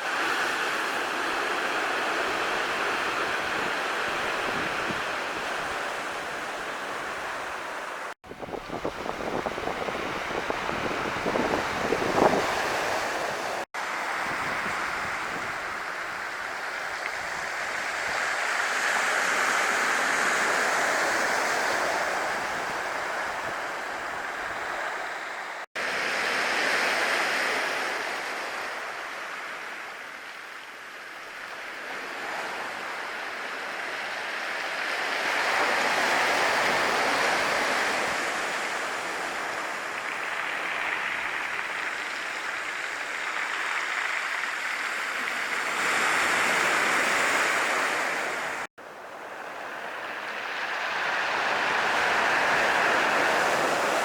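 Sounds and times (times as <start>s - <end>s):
surf washing onto shore: 0.0s - 54.0s.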